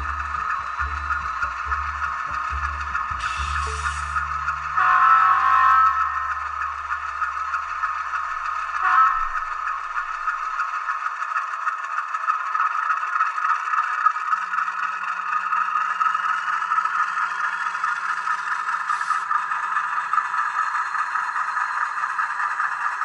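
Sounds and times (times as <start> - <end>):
faint motor whine: 0.0 - 23.0
model train wheels rattling on rails: 3.2 - 23.0.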